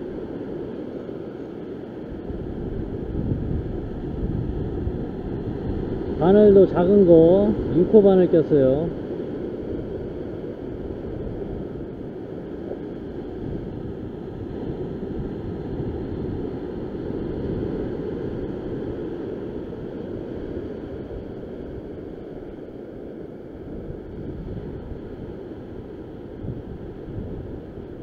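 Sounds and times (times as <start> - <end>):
ocean surf over rocks: 0.0 - 28.0
wind noise on microphone: 0.0 - 28.0.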